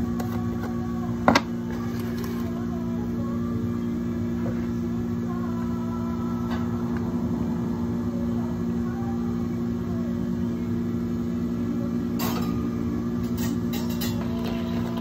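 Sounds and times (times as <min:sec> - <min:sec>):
cafe machinery hum: 0:00.0 - 0:15.0.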